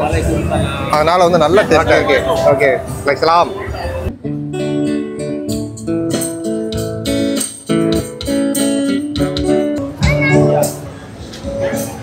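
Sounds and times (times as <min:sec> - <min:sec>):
plucked guitar melody: 0:00.0 - 0:12.0.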